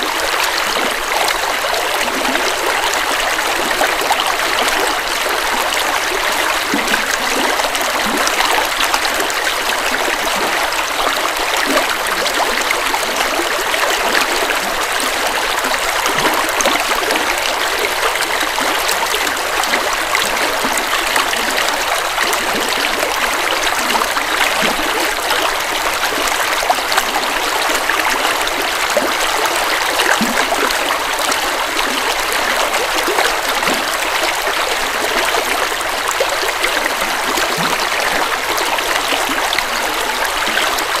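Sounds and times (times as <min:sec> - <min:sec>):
river flowing over rocks: 0:00.0 - 0:41.0.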